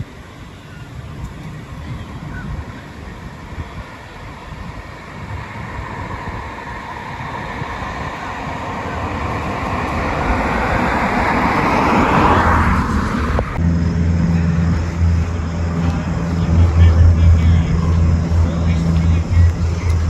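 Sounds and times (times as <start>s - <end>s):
steady low hum: 0.0s - 20.0s
vehicle passing: 1.1s - 20.0s.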